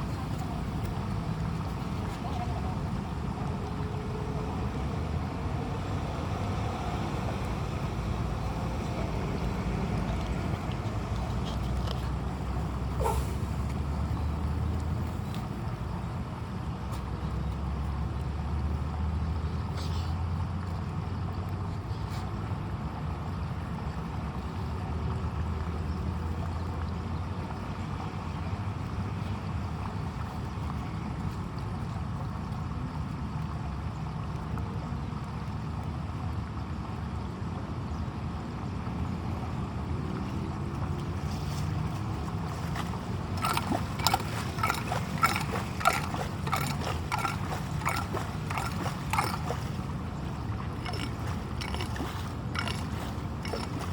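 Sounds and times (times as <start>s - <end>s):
rain and water running into drain: 0.0s - 53.9s.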